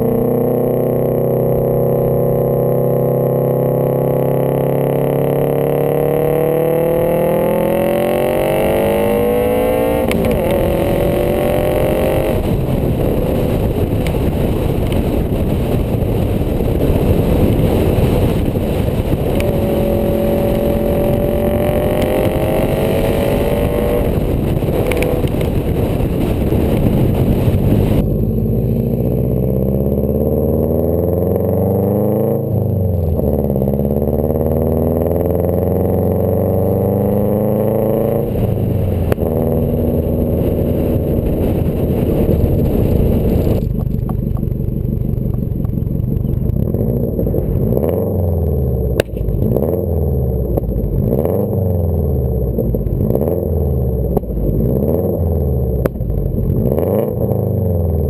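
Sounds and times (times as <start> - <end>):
car exhaust accelerating: 0.0 - 58.0
wind noise: 4.5 - 58.0.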